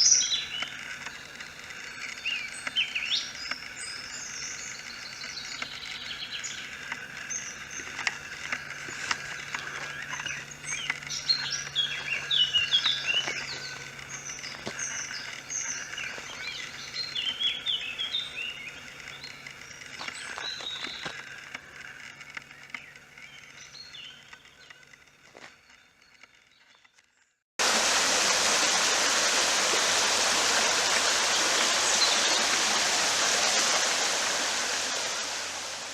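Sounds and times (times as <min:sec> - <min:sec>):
small birds chorus chirping: 0:00.0 - 0:27.0, 0:29.1 - 0:35.9.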